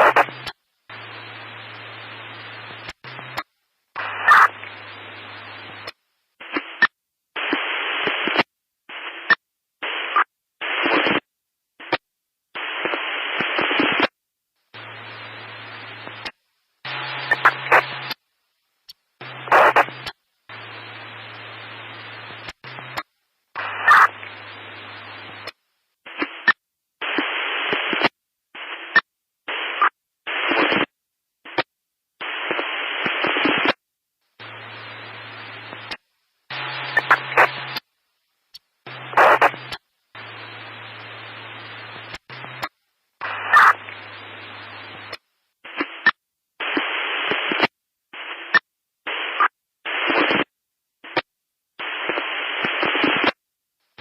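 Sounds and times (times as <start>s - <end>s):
static hissing in bursts: 0.0s - 11.2s, 14.7s - 18.2s, 19.2s - 31.6s, 34.4s - 37.9s, 38.8s - 50.4s, 51.8s - 53.4s
crackly bursts with clicks: 0.0s - 54.0s.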